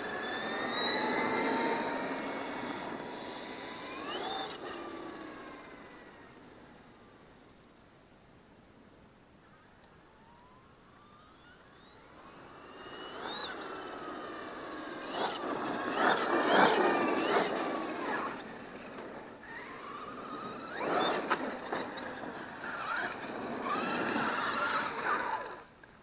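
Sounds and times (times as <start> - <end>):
electric motor whining: 0.0 - 6.8, 10.1 - 25.7.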